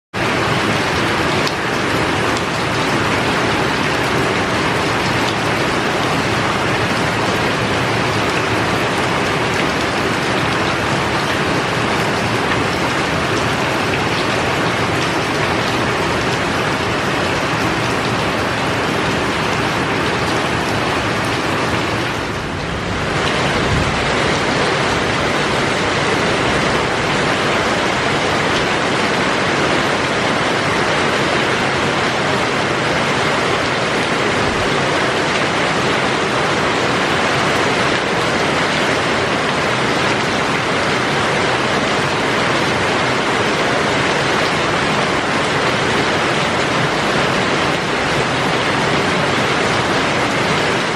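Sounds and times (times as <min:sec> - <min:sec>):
heavy rain pouring: 0:00.1 - 0:50.9.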